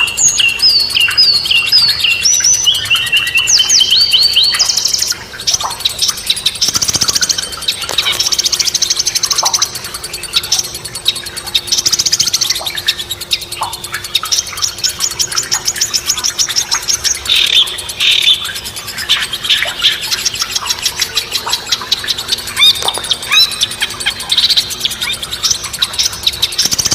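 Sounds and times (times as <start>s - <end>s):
songbirds trilling and chirping: 0.0s - 26.9s.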